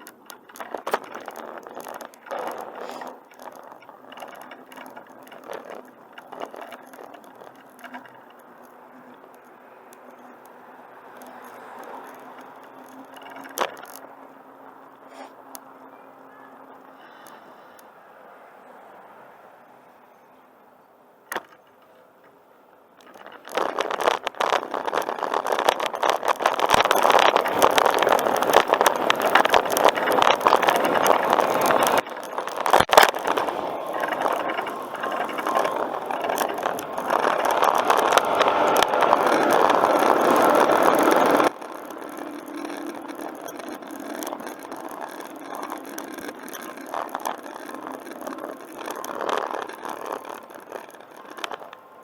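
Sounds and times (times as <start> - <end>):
bicycle rattling on rough path: 0.0 - 15.2, 21.3 - 52.0.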